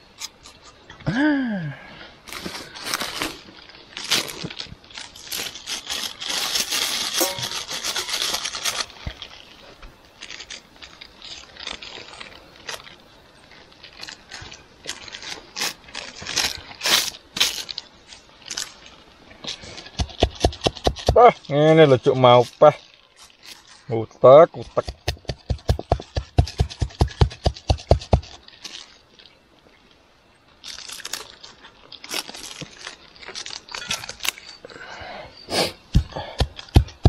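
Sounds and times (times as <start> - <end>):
crushing and scraping by hand: 2.2 - 29.4, 30.6 - 37.0.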